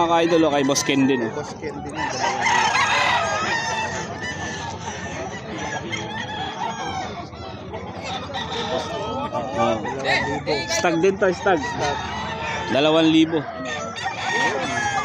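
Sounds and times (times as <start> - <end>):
roosters crowing and clucking: 0.0 - 15.0.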